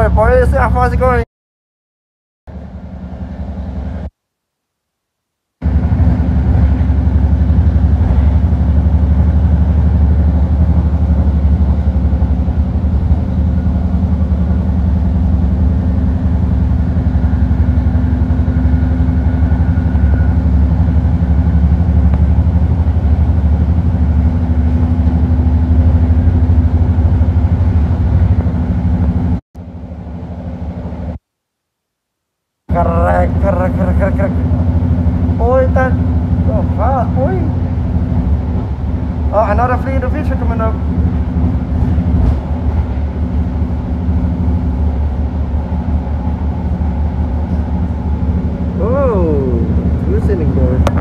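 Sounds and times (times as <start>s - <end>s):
train car rumble: 0.0s - 1.2s, 2.5s - 4.2s, 5.6s - 31.2s, 32.7s - 51.0s
low hum: 2.5s - 32.1s, 32.7s - 51.0s.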